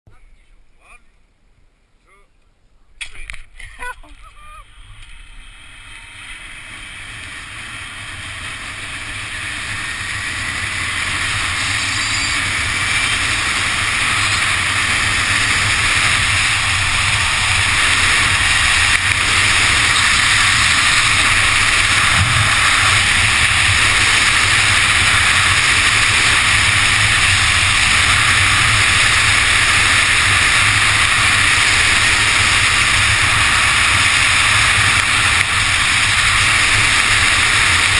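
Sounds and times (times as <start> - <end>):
wind rushing over microphone: 4.7 - 37.9.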